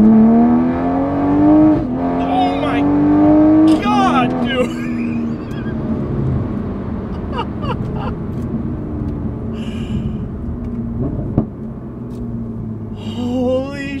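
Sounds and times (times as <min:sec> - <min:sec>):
car engine running in cabin: 0:00.0 - 0:14.0
tyre and road noise: 0:00.0 - 0:14.0.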